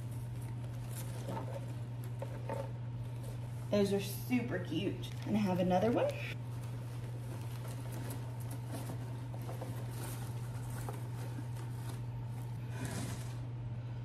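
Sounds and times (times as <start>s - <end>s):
rustling of artificial stems: 0.0s - 13.5s
steady low hum: 0.0s - 14.0s.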